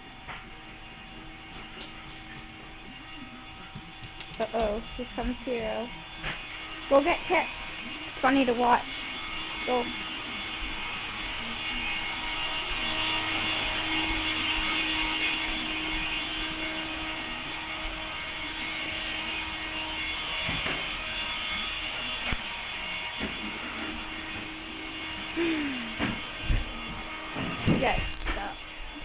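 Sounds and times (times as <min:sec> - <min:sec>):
vacuum motor whirring: 0:00.0 - 0:29.0.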